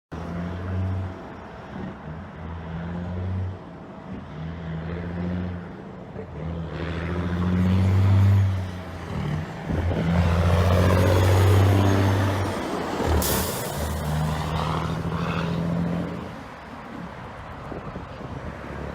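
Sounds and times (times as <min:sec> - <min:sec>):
diesel truck engine: 0:00.1 - 0:18.9
road noise rushing: 0:00.1 - 0:18.9.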